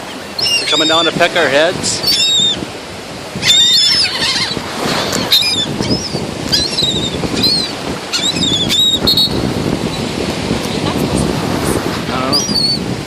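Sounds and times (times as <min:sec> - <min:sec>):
seagulls calling: 0:00.0 - 0:11.3, 0:12.1 - 0:13.0
surf washing: 0:00.0 - 0:13.0
wind: 0:00.0 - 0:13.0.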